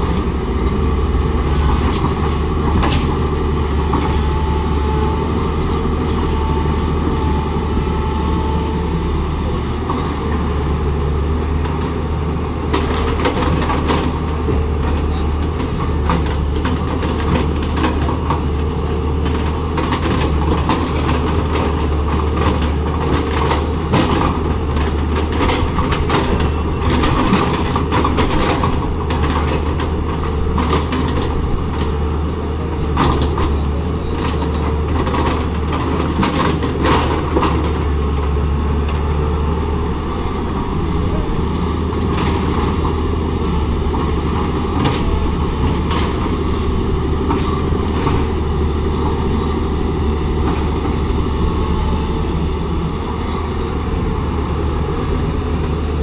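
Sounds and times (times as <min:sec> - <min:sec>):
excavator diesel engine droning: 0:00.0 - 0:56.0.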